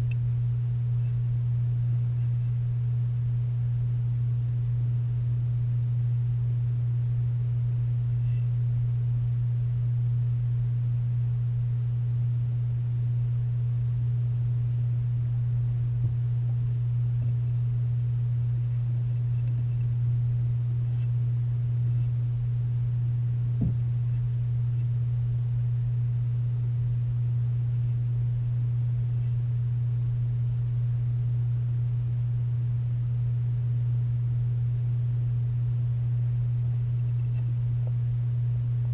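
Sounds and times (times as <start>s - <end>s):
pump humming underwater: 0.0s - 38.9s.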